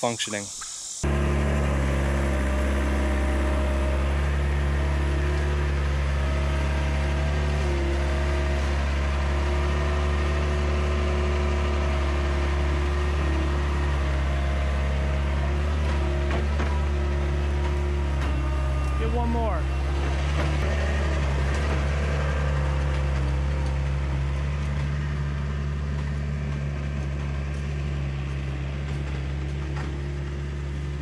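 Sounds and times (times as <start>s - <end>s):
loader engine running: 1.0s - 31.0s.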